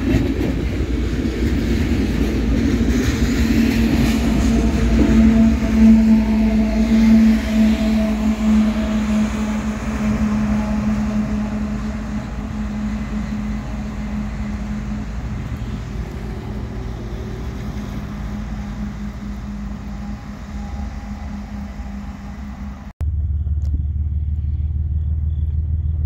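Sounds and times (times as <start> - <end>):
locomotive diesel engine drone: 0.0 - 26.0.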